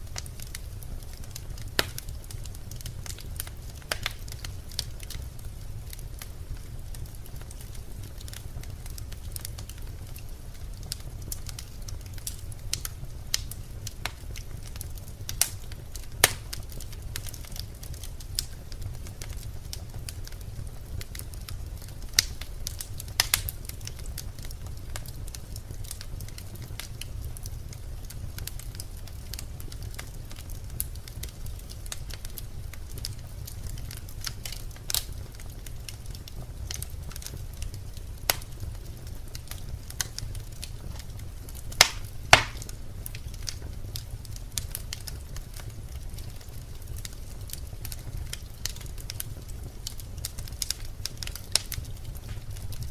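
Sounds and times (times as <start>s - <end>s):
fireplace fire crackling: 0.0s - 52.9s.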